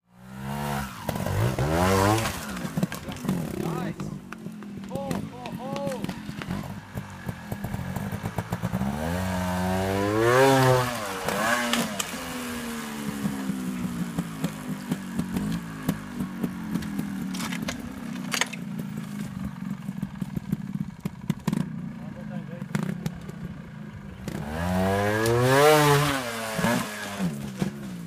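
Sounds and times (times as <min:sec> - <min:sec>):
motorcycle engine revving: 0:00.1 - 0:28.0.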